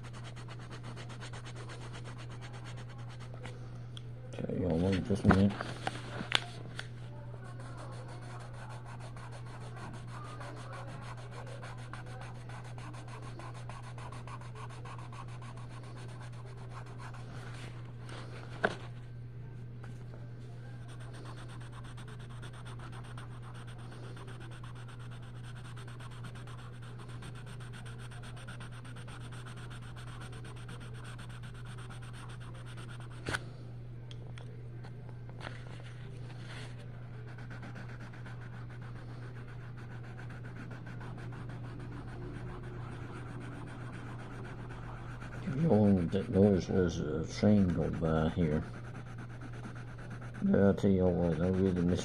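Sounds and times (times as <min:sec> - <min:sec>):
colored pencil scratching on paper: 0:00.0 - 0:03.3, 0:07.4 - 0:17.6, 0:20.8 - 0:33.4, 0:36.4 - 0:52.0
steady low hum: 0:00.0 - 0:52.0.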